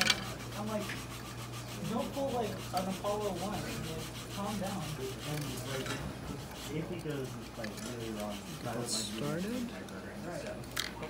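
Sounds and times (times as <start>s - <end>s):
thin wooden parts rubbing: 0.0s - 10.0s
steady low hum: 0.0s - 11.0s.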